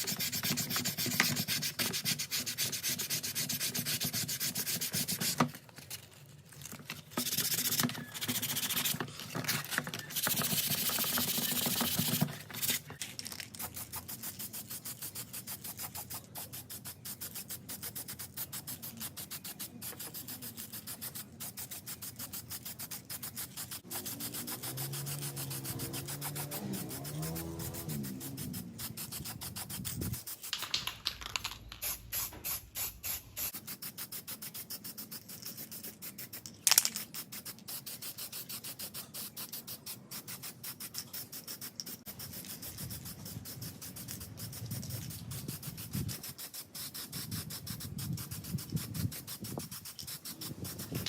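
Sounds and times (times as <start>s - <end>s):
hand rubbing and scraping: 0.0s - 51.0s.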